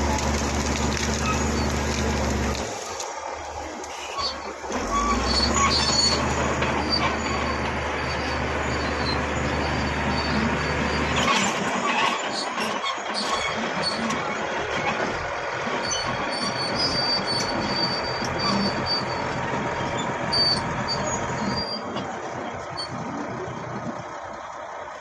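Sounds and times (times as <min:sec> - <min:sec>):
steel tracks squealing: 0:00.0 - 0:23.0
bulldozer engine drone: 0:00.0 - 0:25.0.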